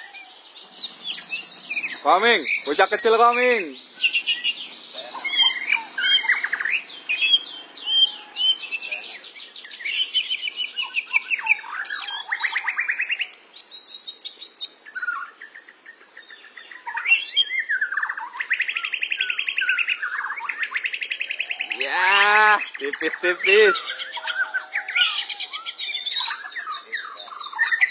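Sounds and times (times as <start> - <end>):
songbirds singing trills and whistles: 0.0 - 27.9.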